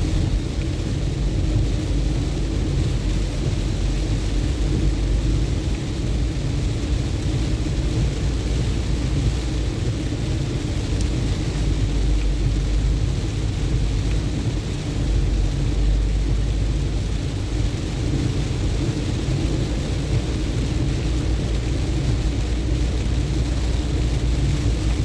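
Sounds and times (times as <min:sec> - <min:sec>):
car engine and tyres rumbling: 0:00.0 - 0:25.0
rain and spray hiss: 0:00.0 - 0:25.0.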